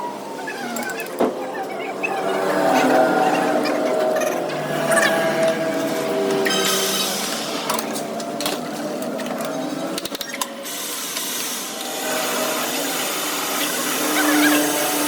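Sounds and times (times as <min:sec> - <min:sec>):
metalworking machine whirring: 0:00.1 - 0:15.0.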